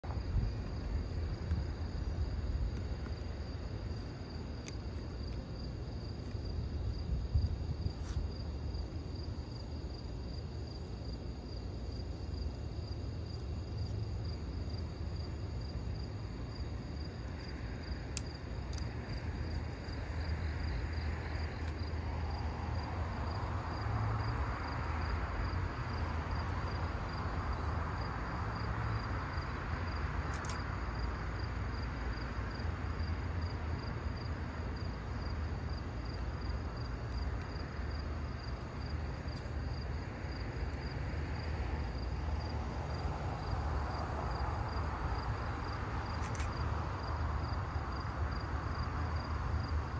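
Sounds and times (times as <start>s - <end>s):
constant low rumble: 0.0s - 49.9s
crickets chirping: 0.0s - 49.9s.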